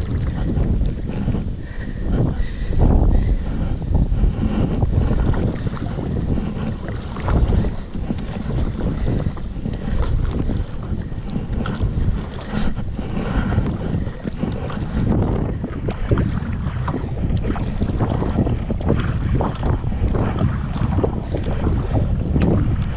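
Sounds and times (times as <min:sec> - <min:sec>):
water splashing against kayak: 0:00.0 - 0:22.9
wind buffeting microphone: 0:00.0 - 0:22.9.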